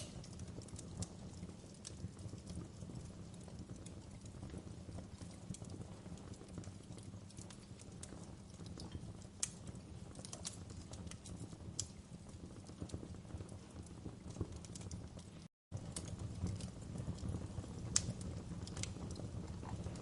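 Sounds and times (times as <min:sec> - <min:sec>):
loud fire pops: 0:00.0 - 0:20.0
wood fire crackling: 0:00.0 - 0:20.0.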